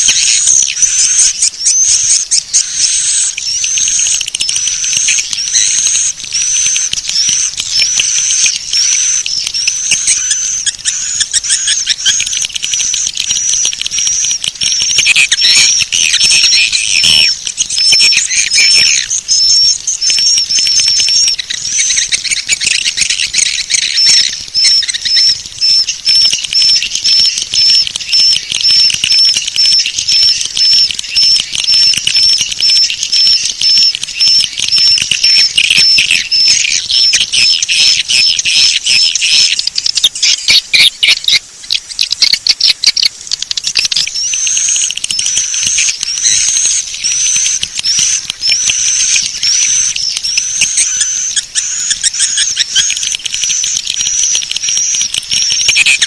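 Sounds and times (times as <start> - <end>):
high twittering bird chirps: 0.0 - 56.0
rapid clicking trills: 0.0 - 56.0.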